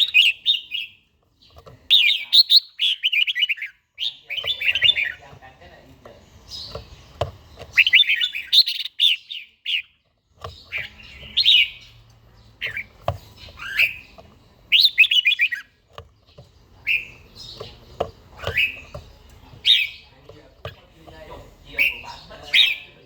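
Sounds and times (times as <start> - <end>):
bird singing warbling phrases: 0.0 - 23.0.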